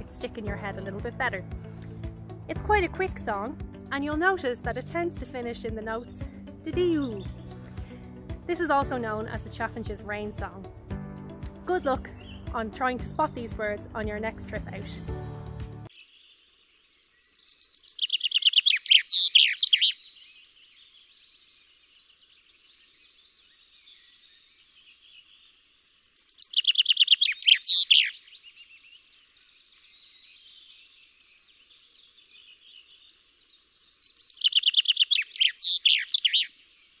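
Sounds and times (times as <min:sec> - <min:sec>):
chaffinch singing: 0:00.0 - 0:15.3, 0:17.0 - 0:21.6, 0:25.3 - 0:37.0.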